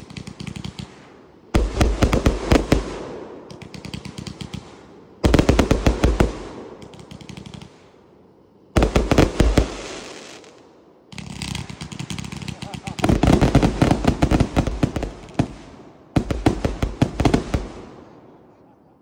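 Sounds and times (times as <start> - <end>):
fireworks crackle: 0.0 - 8.0, 8.8 - 18.4
fireworks firing in volleys: 0.0 - 18.8.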